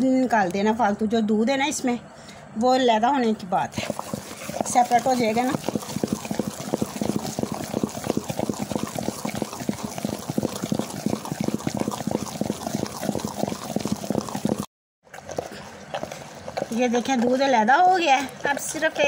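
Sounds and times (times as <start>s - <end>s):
cream churning with wet slapping: 3.7s - 19.0s.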